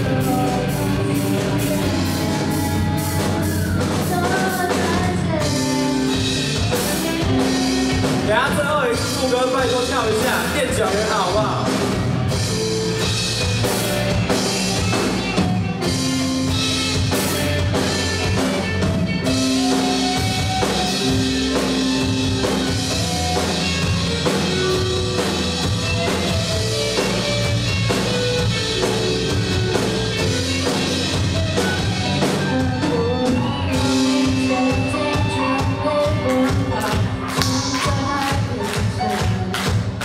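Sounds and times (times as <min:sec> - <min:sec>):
bass guitar: 0:00.0 - 0:40.0
drum kit: 0:00.0 - 0:40.0
electric guitar lead: 0:00.0 - 0:40.0.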